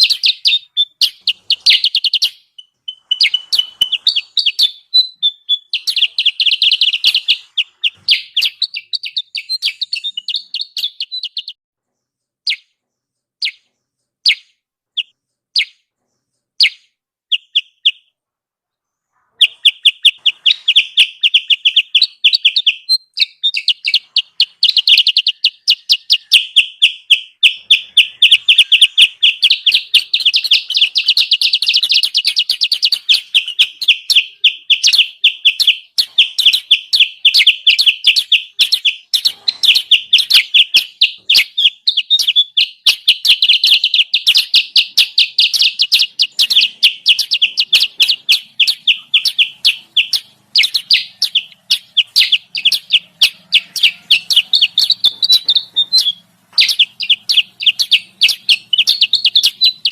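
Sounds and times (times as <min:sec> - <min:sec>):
bird chattering chirps: 0:00.0 - 0:11.6, 0:12.4 - 0:12.8, 0:13.4 - 0:18.1, 0:19.0 - 0:59.9.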